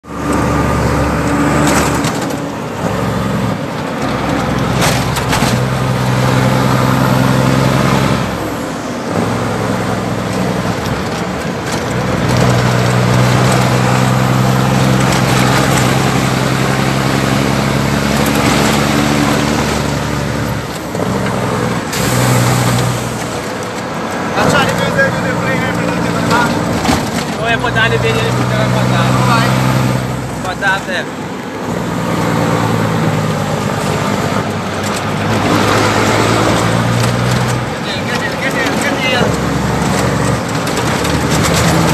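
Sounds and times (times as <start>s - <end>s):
diesel truck engine running: 0.0s - 41.9s
road and wind noise: 0.0s - 41.9s.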